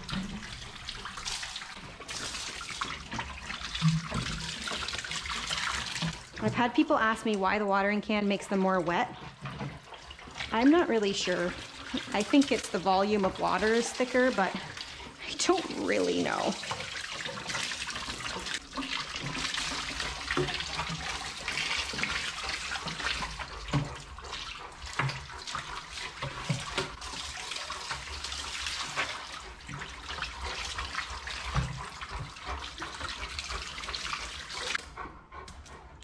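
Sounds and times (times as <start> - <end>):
water splashing on tiled floor: 0.0 - 7.7, 8.4 - 34.8
water pouring from watering can: 0.0 - 34.8.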